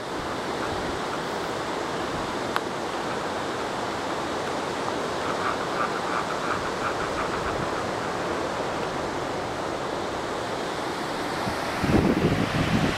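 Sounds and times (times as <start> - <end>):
wind: 0.0 - 12.9.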